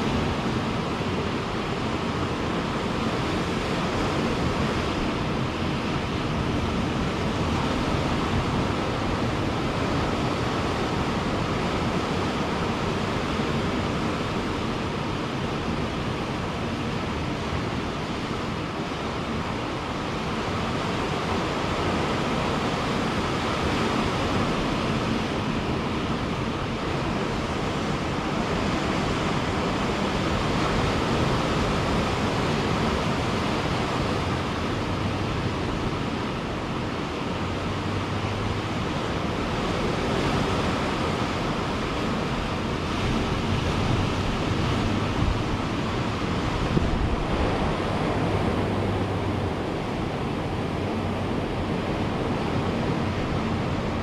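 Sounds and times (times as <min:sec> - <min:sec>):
ocean surf washing: 0:00.0 - 0:54.0.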